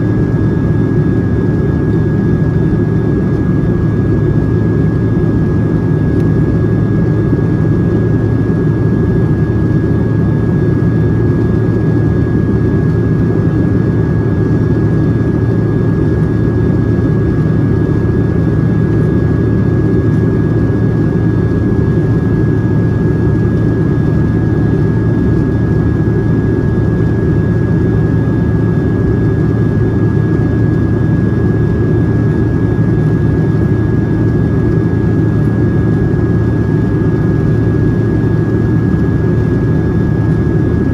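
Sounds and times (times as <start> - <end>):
jet engine and air roar: 0.0 - 40.9
thin steady whine: 0.0 - 40.9.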